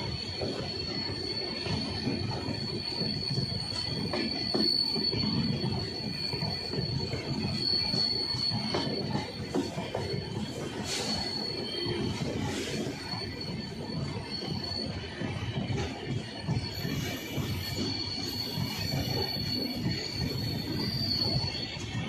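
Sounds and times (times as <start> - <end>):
high-pitched wheel squeal: 0.0 - 22.0
low rumble of train coaches: 0.0 - 22.0.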